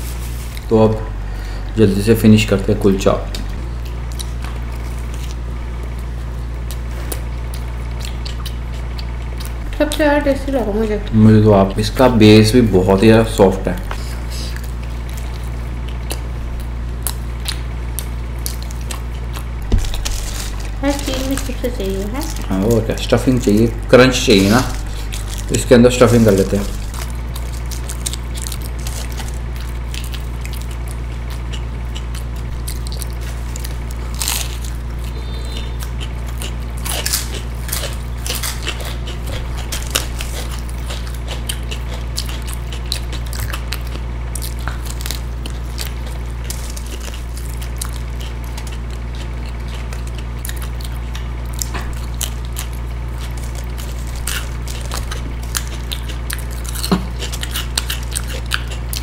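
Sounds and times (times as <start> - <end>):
steady low hum: 0.0 - 59.0
chewing and biting: 3.2 - 10.4, 11.7 - 59.0.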